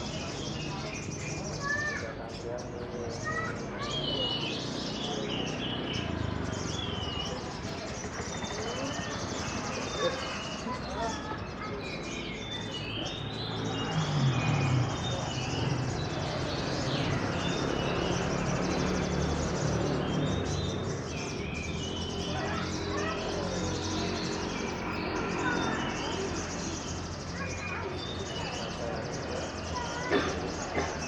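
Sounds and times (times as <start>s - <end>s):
crowd murmur: 0.0s - 31.0s
songbirds chirping and trilling: 0.0s - 31.0s.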